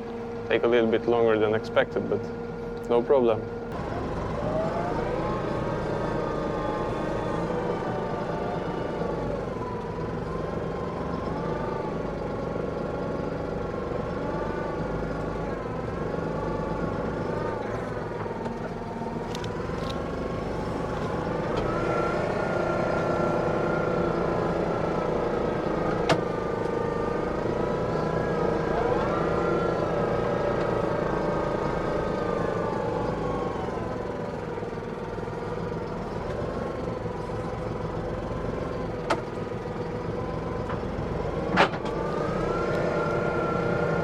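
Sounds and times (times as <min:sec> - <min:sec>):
tractor engine whining: 0:00.0 - 0:44.0.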